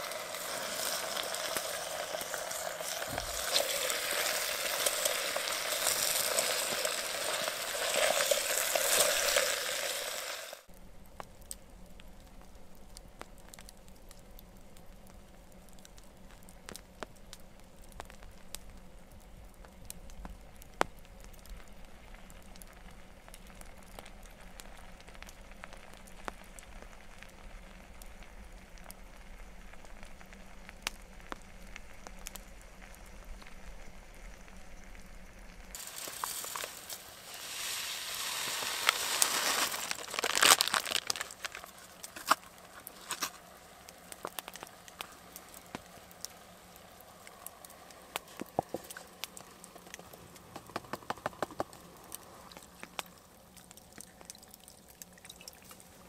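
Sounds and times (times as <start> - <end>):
sizzling hiss: 0.0 - 53.8
wood fire crackling: 0.0 - 56.0.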